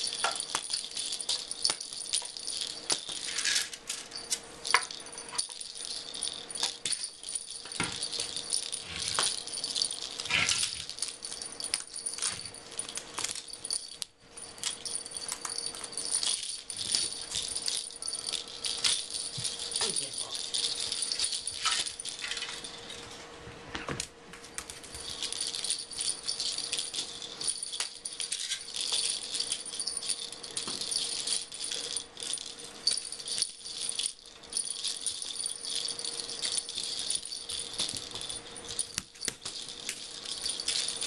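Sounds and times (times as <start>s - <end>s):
jingle bell jingling: 0.0s - 23.2s, 24.5s - 41.0s.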